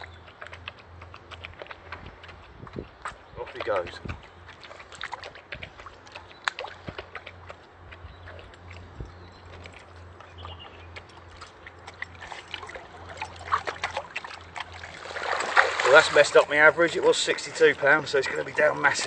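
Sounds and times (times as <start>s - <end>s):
small splashes and clicks: 0.0s - 19.0s
water sloshing: 0.0s - 19.0s.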